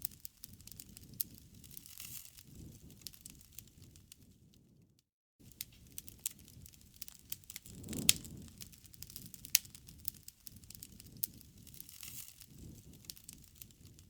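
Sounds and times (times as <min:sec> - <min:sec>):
campfire crackling: 0:00.0 - 0:04.8, 0:05.4 - 0:14.0
low rumble of flames: 0:00.0 - 0:14.0.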